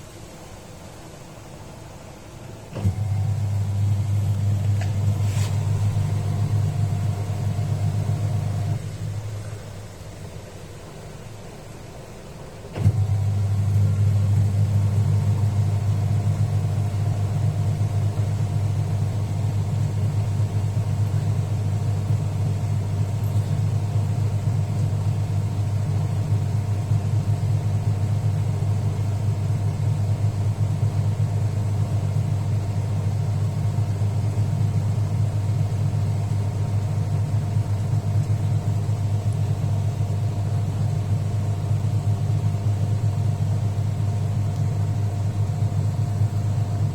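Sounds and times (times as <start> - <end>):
washing machine spinning hum: 0.0 - 46.9.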